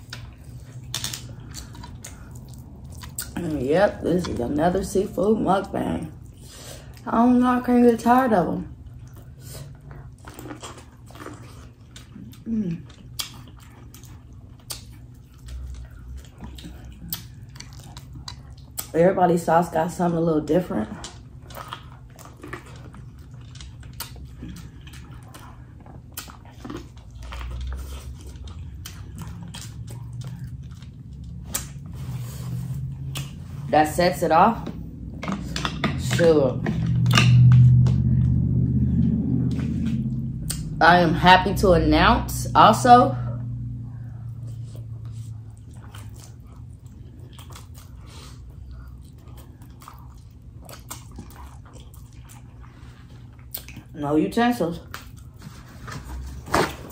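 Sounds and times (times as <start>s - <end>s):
chewing corn on the cob: 0.0s - 33.7s, 43.5s - 54.0s, 54.6s - 56.9s.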